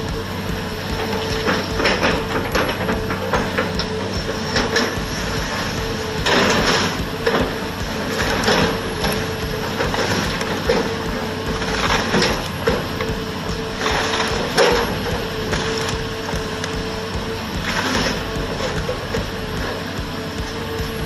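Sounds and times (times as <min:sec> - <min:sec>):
bucket crunching debris: 0:00.0 - 0:21.0
excavator engine running: 0:00.0 - 0:21.0
wood and debris crashing: 0:00.0 - 0:21.0.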